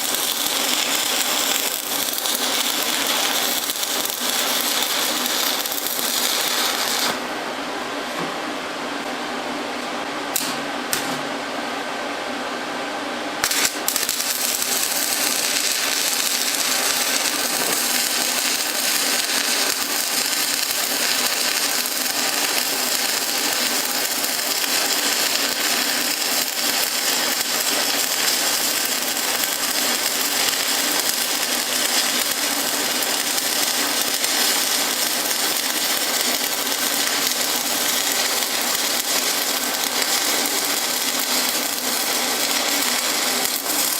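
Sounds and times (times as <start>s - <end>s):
welding arc crackling: 0.0s - 7.3s, 13.4s - 43.9s.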